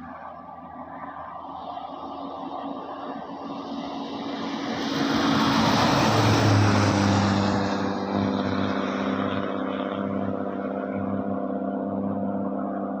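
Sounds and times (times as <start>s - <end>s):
bus passing on highway: 0.0s - 13.0s.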